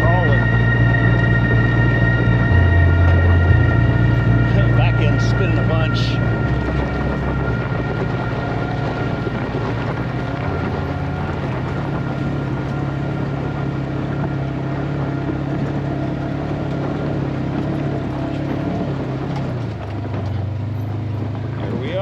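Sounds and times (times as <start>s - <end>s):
utility vehicle engine droning: 0.0s - 22.0s.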